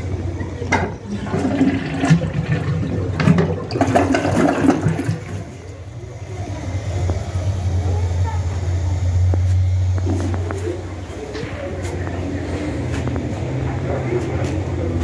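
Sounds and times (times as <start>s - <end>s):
steady low hum: 0.0s - 15.0s
toilet flushing: 0.0s - 15.0s.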